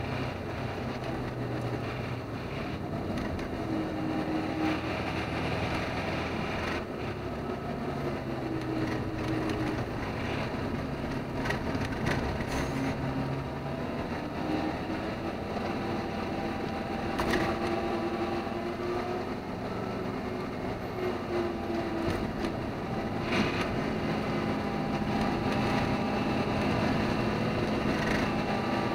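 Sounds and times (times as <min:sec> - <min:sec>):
road noise: 0:00.0 - 0:28.9
truck engine running: 0:00.0 - 0:28.9.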